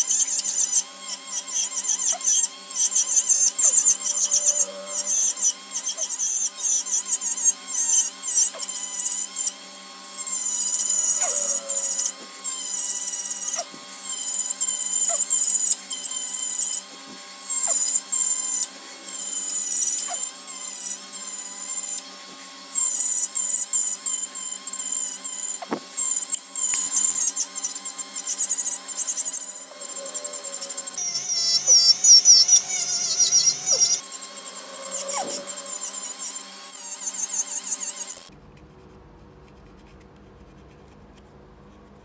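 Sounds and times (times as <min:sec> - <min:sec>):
rotary tool whining into wood: 0:00.0 - 0:38.3.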